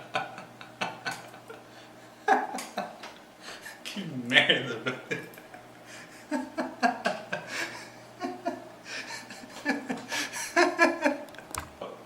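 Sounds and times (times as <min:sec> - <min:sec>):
man laughing: 0:00.0 - 0:03.0, 0:03.6 - 0:11.3.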